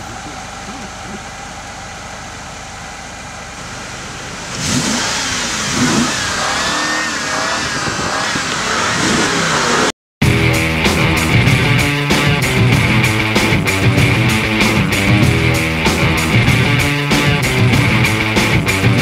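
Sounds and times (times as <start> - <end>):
car engine revving: 3.1 - 19.0.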